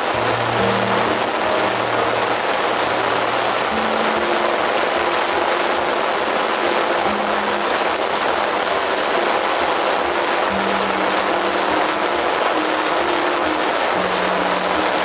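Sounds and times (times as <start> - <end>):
faint background music: 0.0 - 15.0
steady rain falling: 0.0 - 15.0.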